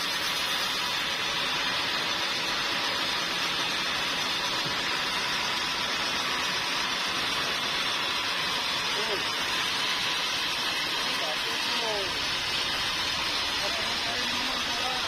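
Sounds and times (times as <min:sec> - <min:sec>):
sawmill machinery hissing: 0:00.0 - 0:15.0.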